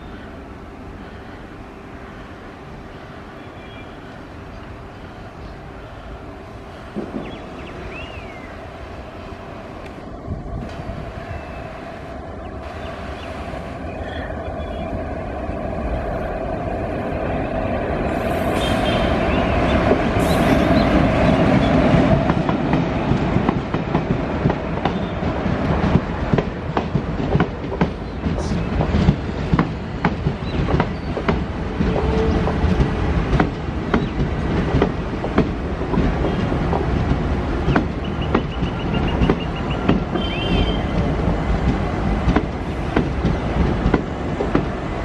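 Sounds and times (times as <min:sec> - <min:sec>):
locomotive hum: 0:00.0 - 0:45.0.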